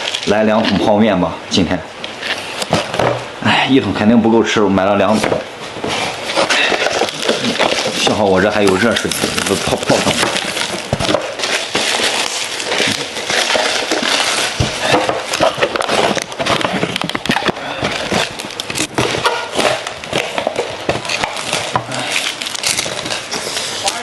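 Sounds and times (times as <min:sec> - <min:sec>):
plastic packaging crinkling: 0:00.0 - 0:01.0, 0:05.0 - 0:24.0.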